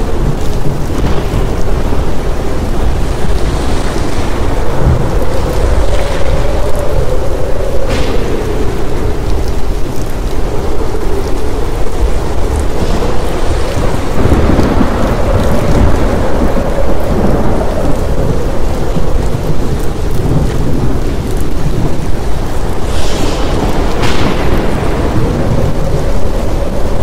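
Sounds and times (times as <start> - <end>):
heavy rain: 0.0 - 27.0
low wavering howl: 0.0 - 27.0
rolling thunder: 0.0 - 27.0.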